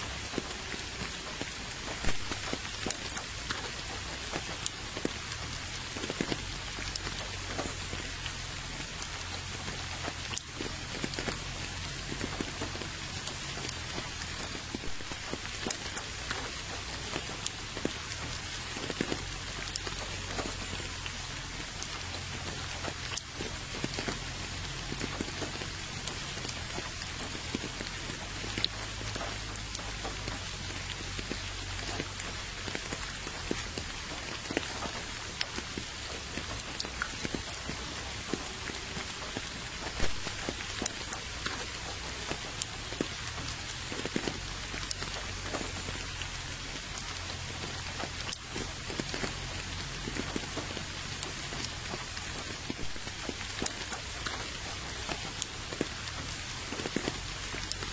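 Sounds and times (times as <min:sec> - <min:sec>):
steady rain patter: 0:00.0 - 0:57.9
water drips: 0:00.0 - 0:57.9.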